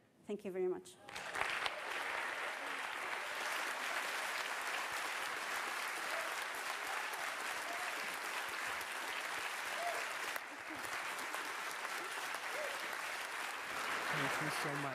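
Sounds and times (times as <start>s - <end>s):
audience applause: 1.1s - 14.9s.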